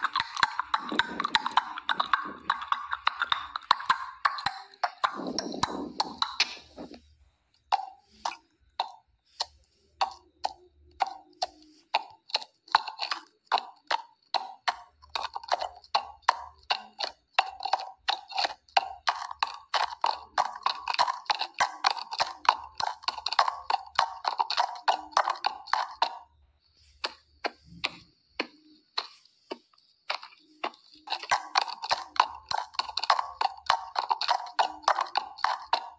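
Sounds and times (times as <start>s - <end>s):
horse hoofbeats galloping: 0.0s - 35.9s.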